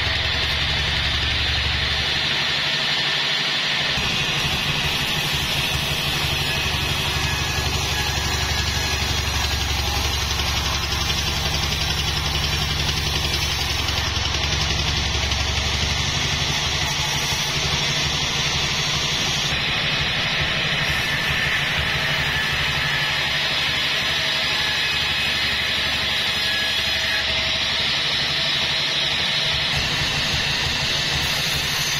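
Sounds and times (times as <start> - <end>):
sawmill drive drone: 0.0 - 31.9
band saw blade hissing: 2.8 - 28.4, 29.6 - 31.9.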